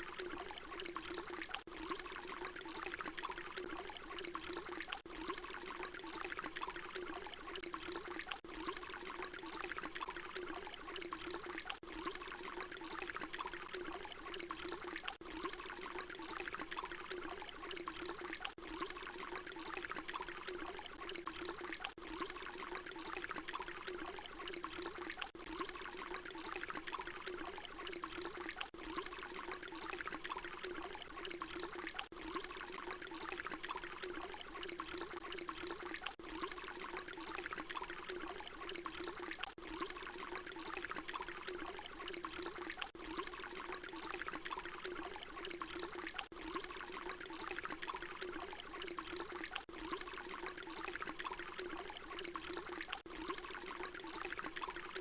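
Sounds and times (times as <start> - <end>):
water pouring in a stream: 0.0 - 55.0.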